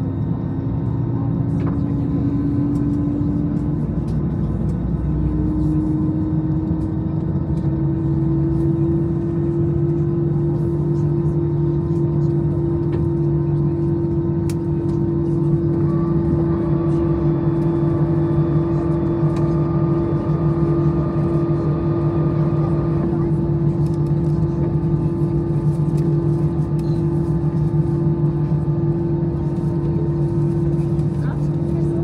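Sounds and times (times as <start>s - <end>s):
aircraft cabin engine drone: 0.0s - 32.0s.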